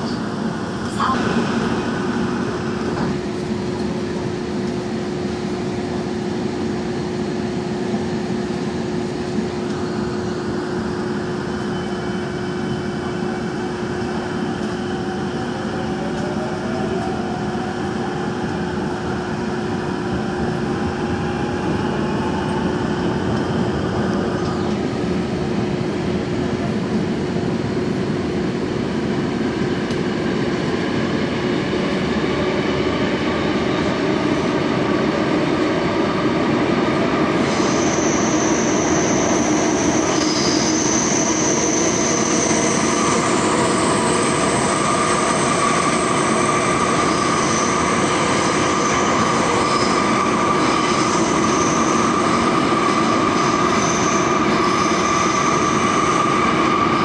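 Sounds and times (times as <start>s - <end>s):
subway train running: 0.0s - 57.0s.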